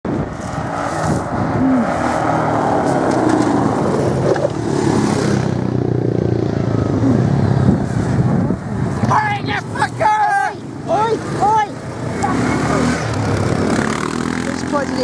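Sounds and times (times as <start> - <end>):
quad bike engines driving past: 0.1 - 15.0.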